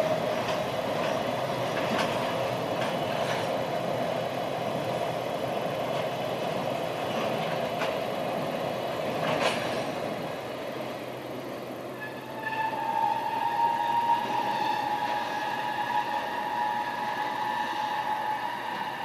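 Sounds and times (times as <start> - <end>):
freight train on rails: 0.0 - 19.0.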